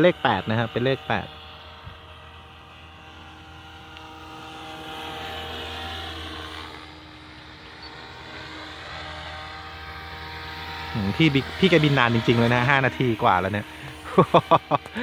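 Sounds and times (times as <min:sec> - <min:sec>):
rc helicopter motor and rotor whine: 0:00.0 - 0:15.0.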